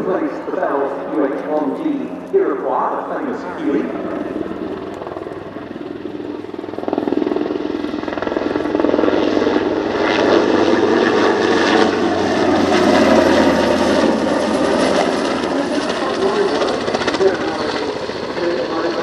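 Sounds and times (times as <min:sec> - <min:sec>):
helicopter flying past: 0:00.0 - 0:19.0.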